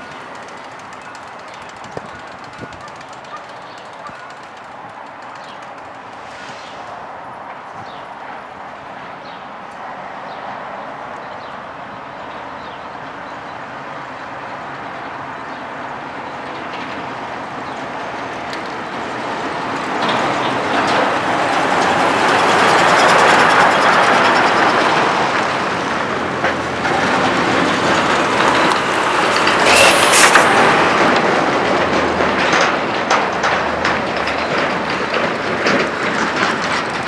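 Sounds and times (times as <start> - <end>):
wheels clattering over rails: 0.0 - 8.0, 15.1 - 37.0
heavy lorries driving: 0.0 - 11.0, 11.8 - 37.0.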